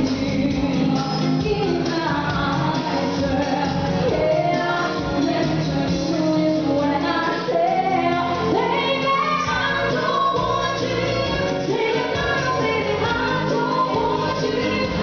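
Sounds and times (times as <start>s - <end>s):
live band playing pop: 0.0s - 15.0s
person singing: 0.0s - 15.0s.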